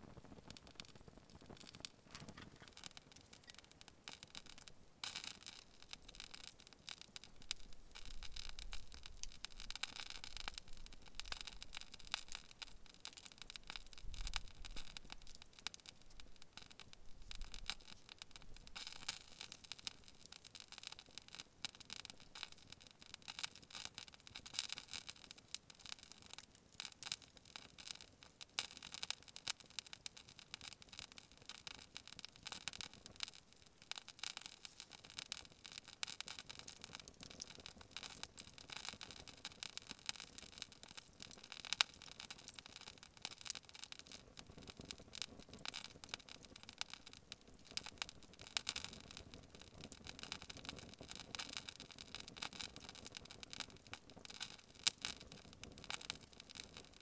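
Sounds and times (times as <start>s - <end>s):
candle resin crackling: 0.0s - 57.0s.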